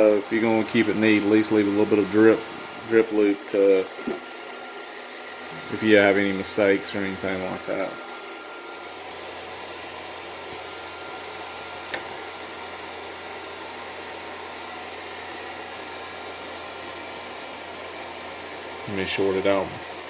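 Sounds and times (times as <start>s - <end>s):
steady ventilation hiss: 0.0s - 20.0s.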